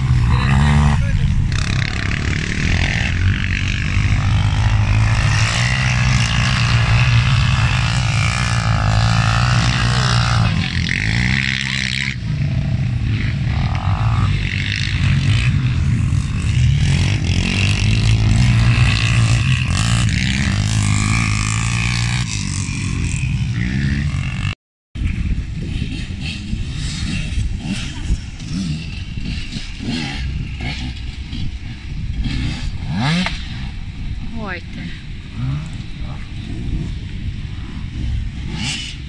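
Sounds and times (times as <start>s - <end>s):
quad bike engines racing: 0.0s - 39.0s.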